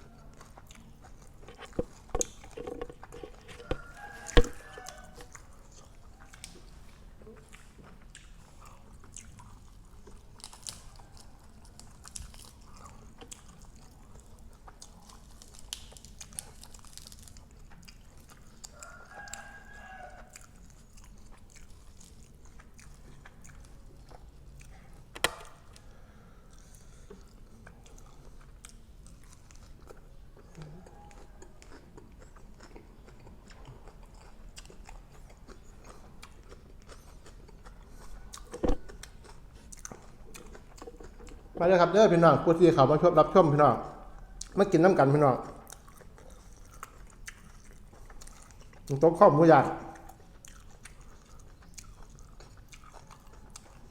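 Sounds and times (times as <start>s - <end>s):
person chewing food: 0.0s - 41.8s, 43.8s - 44.6s, 45.3s - 49.0s, 49.7s - 53.9s.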